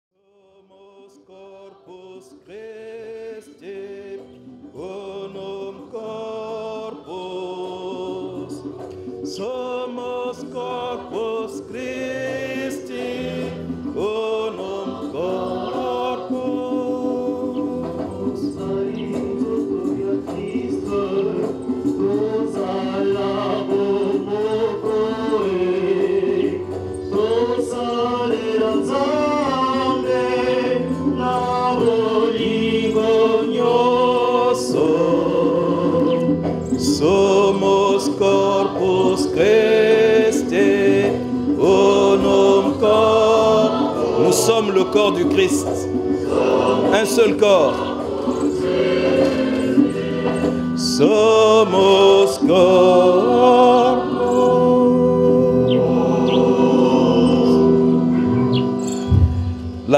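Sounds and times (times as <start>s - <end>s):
choir singing a hymn: 0.2s - 59.9s.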